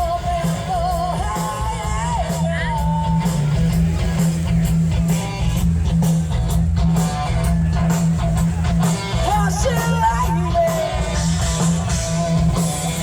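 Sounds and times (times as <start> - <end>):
drum kit beat: 0.0 - 13.0
heavy bass line: 0.0 - 13.0
strummed electric guitar: 0.0 - 13.0.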